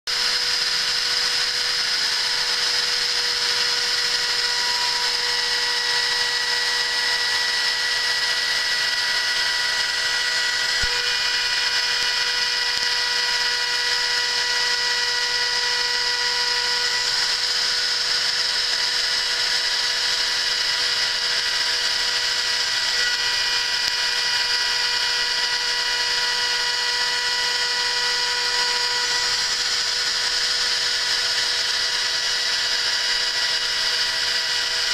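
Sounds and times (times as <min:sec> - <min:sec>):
milling spindle whine: 0:00.1 - 0:34.9.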